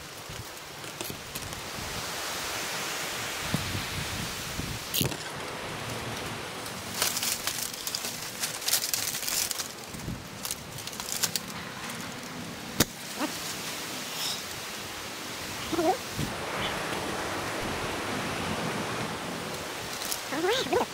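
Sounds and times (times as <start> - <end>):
dry palm fronds rustling: 0.0 - 20.9
steady hiss: 0.0 - 20.9.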